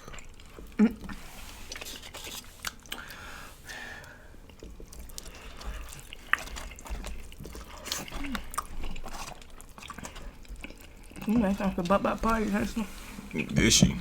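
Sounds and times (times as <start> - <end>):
wet chewing: 0.0 - 13.8.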